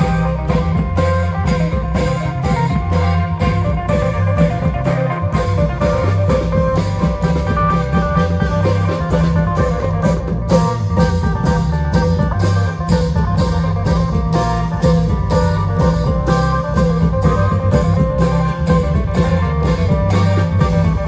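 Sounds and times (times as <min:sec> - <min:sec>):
driving drum beat: 0:00.0 - 0:21.0
plucked string melody: 0:00.0 - 0:21.0.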